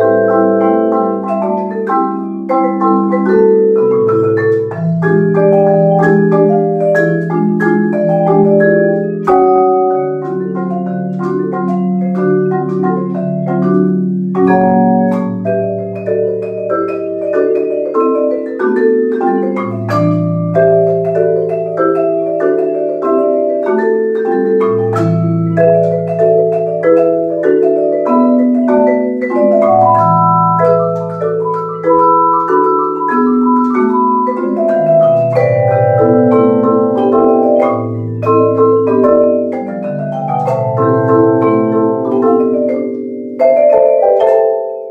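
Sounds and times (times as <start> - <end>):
marimba: 0.0 - 44.9
vibraphone: 0.0 - 44.9.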